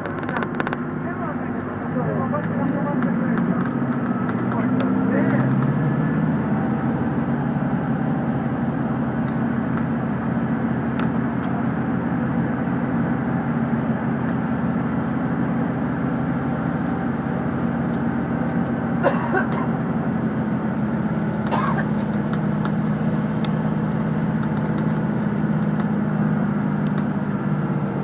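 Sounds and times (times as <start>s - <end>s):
bus diesel engine hum: 0.0s - 28.0s.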